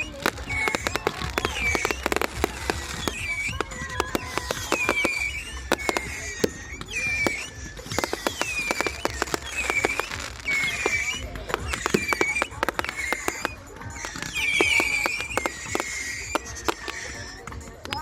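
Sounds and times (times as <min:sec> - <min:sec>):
fireworks crackling: 0:00.0 - 0:18.0
high whistling tone: 0:00.0 - 0:18.0.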